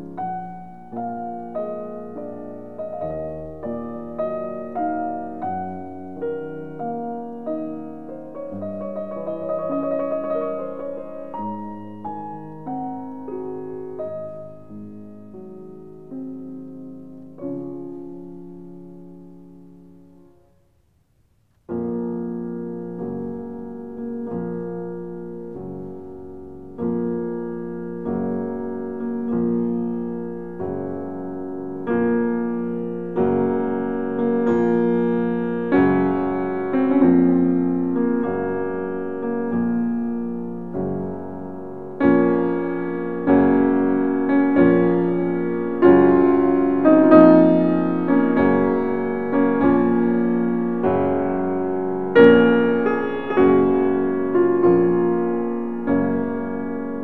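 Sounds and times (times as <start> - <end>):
slow piano chords: 0.0 - 57.0.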